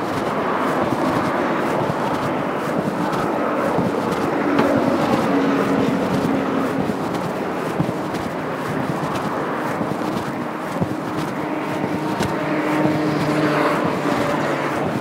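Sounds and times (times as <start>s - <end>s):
cars passing: 0.0s - 15.0s
vehicle engine hum: 0.0s - 15.0s.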